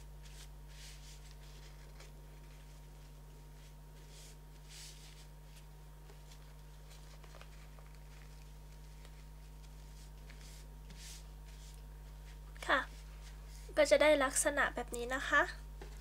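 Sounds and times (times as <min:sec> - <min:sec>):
low electrical hum: 0:00.0 - 0:16.0
paper napkin rustling: 0:00.2 - 0:13.8.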